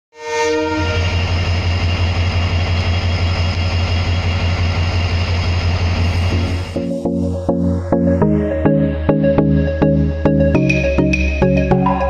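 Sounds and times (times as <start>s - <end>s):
chord of steady tones: 0.2s - 4.6s, 5.9s - 12.0s
diesel locomotive engine rumbling: 0.2s - 12.0s.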